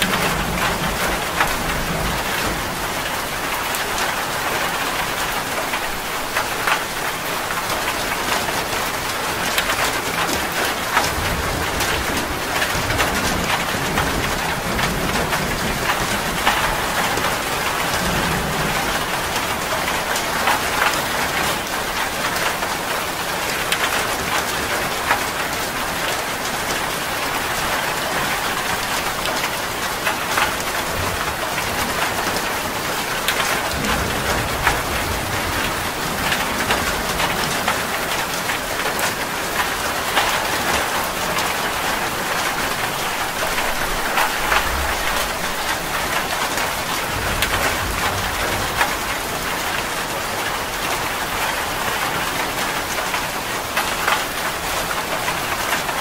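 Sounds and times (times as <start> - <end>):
rain drops splashing: 0.0 - 56.0
steady rain hiss: 0.0 - 56.0.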